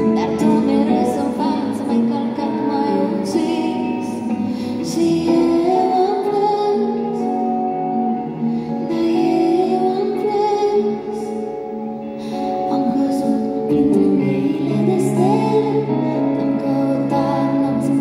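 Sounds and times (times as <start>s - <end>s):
backing music: 0.0s - 18.0s
woman singing into microphone: 0.0s - 18.0s.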